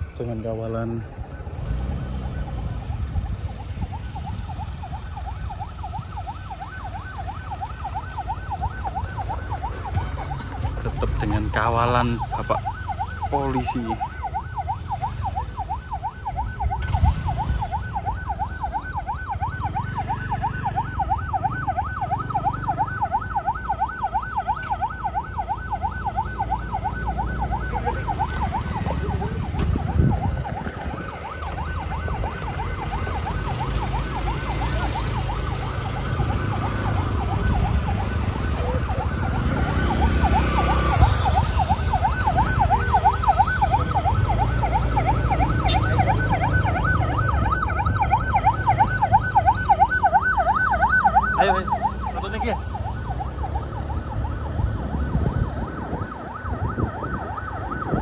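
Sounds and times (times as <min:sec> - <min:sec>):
police siren warbling: 0:00.0 - 0:58.0
road noise: 0:00.0 - 0:58.0
vehicle engines rumbling: 0:00.0 - 0:58.0.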